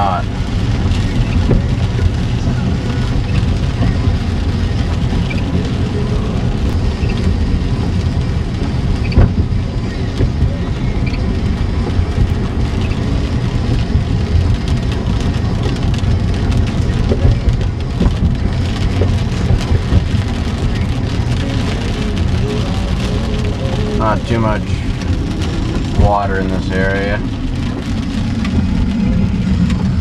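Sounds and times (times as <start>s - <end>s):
rain on car body: 0.0s - 30.0s
tyres on wet road: 0.0s - 30.0s.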